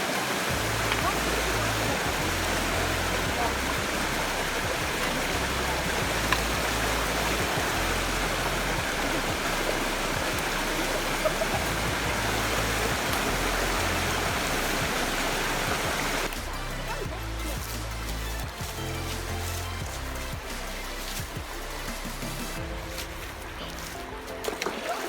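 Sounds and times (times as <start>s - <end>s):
waterfall rushing: 0.0s - 25.0s
background music with bass line: 0.5s - 25.0s.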